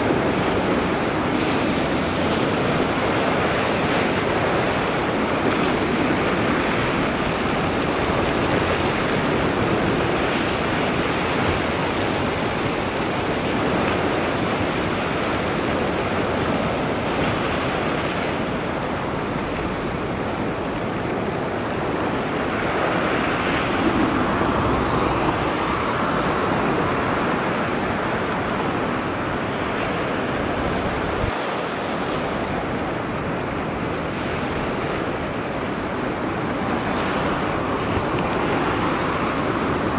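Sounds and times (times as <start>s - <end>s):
small waves washing on sand: 0.0s - 39.9s
wind on microphone: 0.0s - 39.9s.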